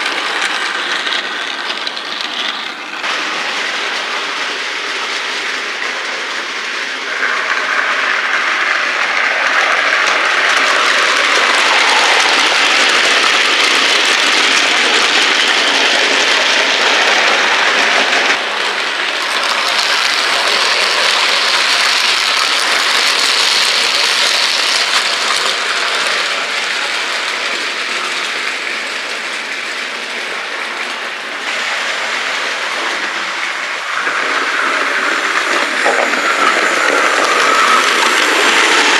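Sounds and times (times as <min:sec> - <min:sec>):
clickety-clack of rails: 0:00.0 - 0:38.9
model trains rolling: 0:00.0 - 0:38.9.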